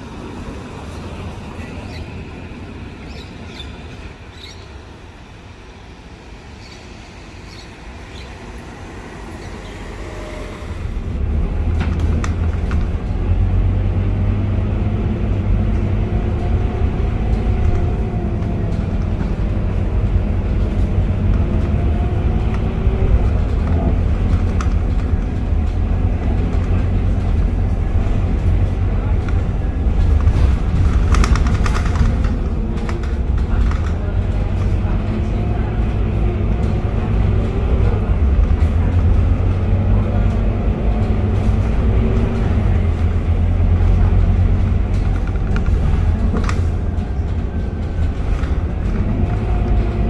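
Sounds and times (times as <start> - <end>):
bus diesel engine: 0.0 - 50.0.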